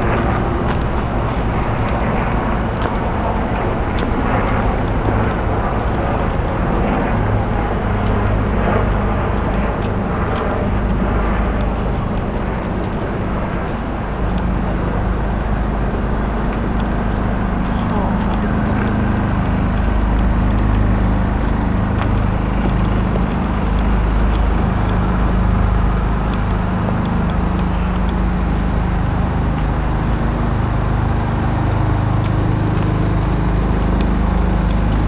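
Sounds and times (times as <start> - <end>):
city traffic rumble: 0.0 - 35.0
low hum: 0.0 - 35.0.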